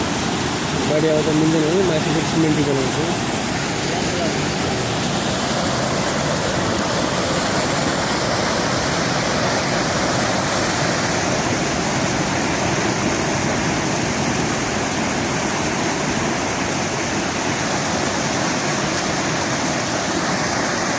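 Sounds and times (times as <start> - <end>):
river water rushing: 0.0 - 20.9.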